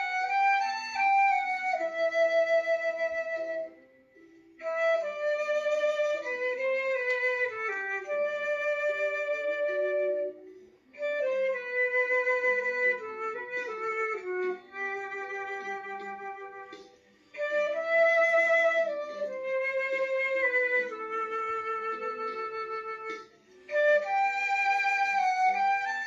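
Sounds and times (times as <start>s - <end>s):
flute melody: 0.0s - 26.0s.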